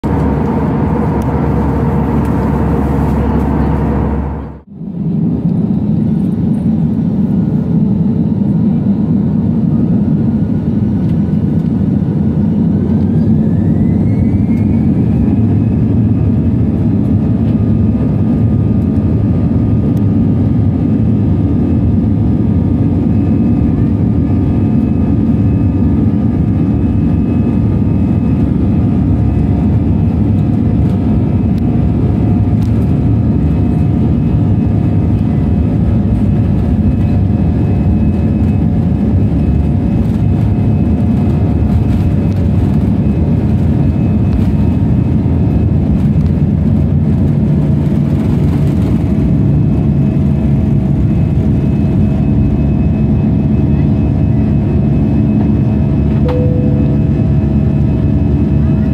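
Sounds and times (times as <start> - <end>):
jet engines roaring at takeoff: 0.0 - 58.9.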